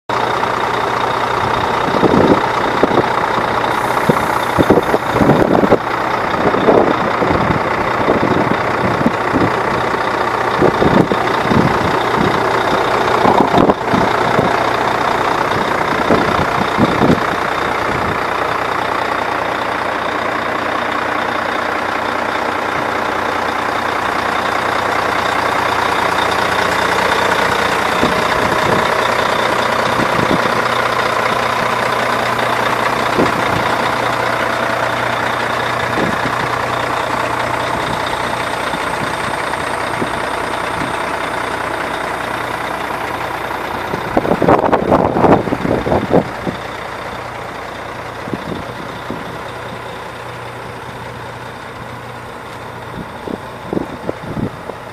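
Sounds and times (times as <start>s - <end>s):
diesel truck engine idling: 0.1s - 54.9s.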